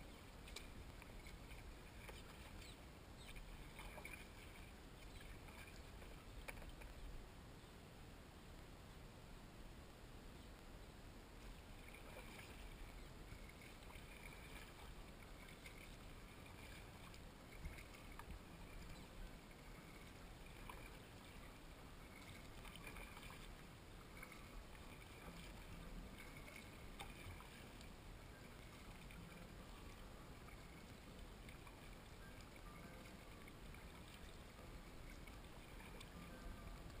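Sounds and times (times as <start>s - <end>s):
paddle dipping and dripping: 0.0s - 7.2s, 11.3s - 37.0s.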